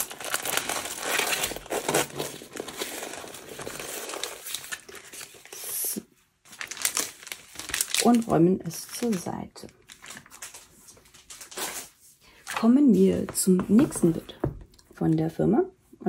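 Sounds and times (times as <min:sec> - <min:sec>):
plastic crinkling and rustling: 0:00.0 - 0:14.4.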